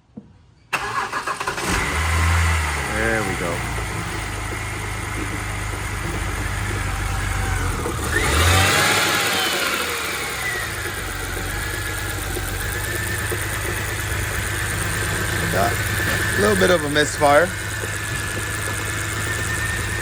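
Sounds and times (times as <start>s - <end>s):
engine misfire: 0.7s - 20.0s
car engine revving and idling: 0.8s - 20.0s.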